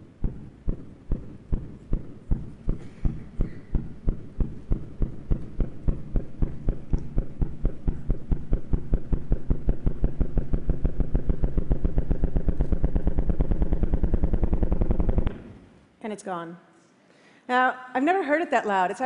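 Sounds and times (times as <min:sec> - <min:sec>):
low drum-like thumps: 0:00.0 - 0:15.6
continuous buzz: 0:00.0 - 0:15.8.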